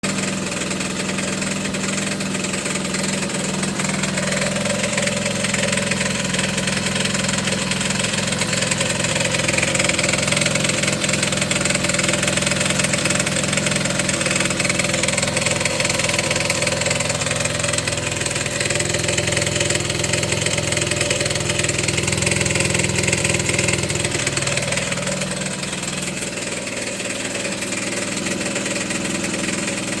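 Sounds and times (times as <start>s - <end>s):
scooter engine idling with knock: 0.0s - 30.0s.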